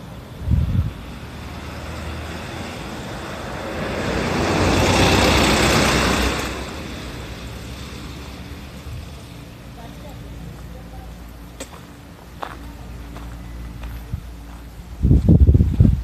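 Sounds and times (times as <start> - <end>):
road vehicle passing by: 0.0 - 16.0.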